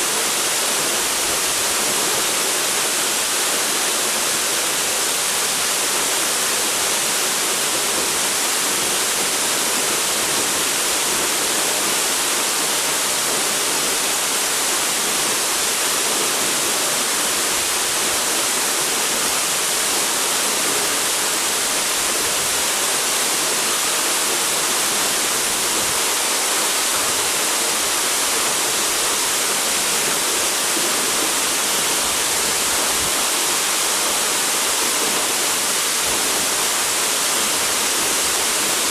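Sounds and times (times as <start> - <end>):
waterfall pouring: 0.1 - 38.9.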